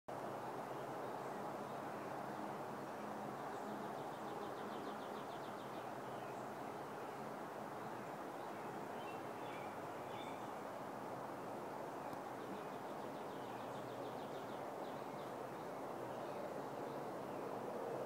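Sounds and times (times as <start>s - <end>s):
outdoor background noise: 0.1s - 18.0s.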